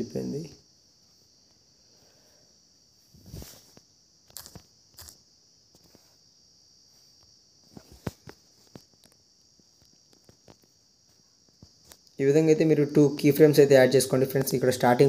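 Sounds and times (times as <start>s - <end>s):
faint high hiss: 0.0s - 15.0s.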